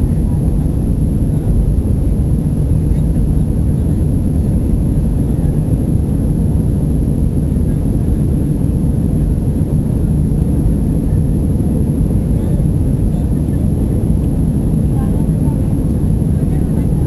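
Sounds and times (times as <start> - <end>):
jet cabin engine rumble: 0.0 - 17.0.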